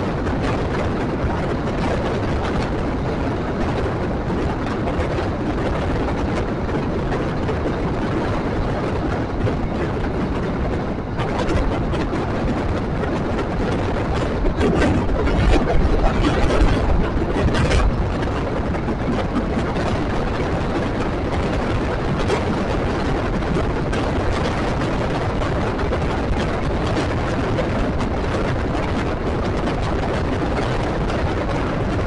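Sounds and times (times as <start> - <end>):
train wheels rumbling on rails: 0.0 - 32.0
wind rushing: 0.0 - 32.0.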